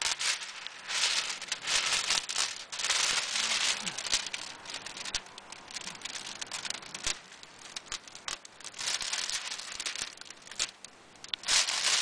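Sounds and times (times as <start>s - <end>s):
plastic film crackling as peeled: 0.0s - 12.0s
sharp ticks and pops: 0.0s - 12.0s.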